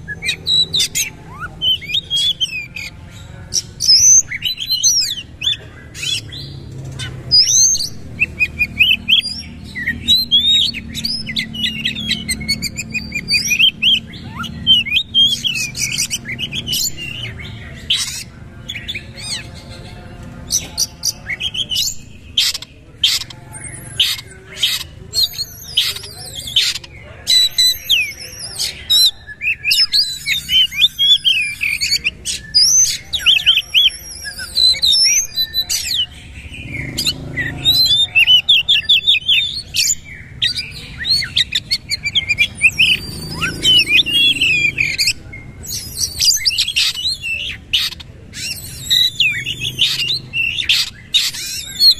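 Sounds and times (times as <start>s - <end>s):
songbird singing whistles: 3.5s - 19.5s, 20.5s - 51.9s.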